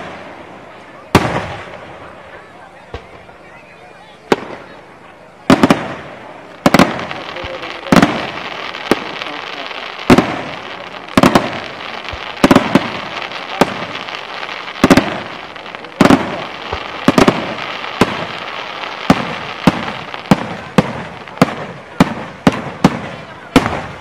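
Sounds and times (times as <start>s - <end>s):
fireworks bursting with sharp bangs: 0.0s - 24.0s
crackle of fireworks stars: 4.2s - 24.0s.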